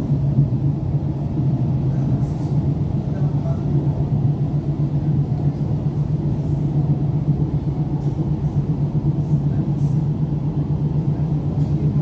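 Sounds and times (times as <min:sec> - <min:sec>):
constant low hum: 0:00.0 - 0:12.0
train wheels rumbling on rail: 0:00.0 - 0:12.0.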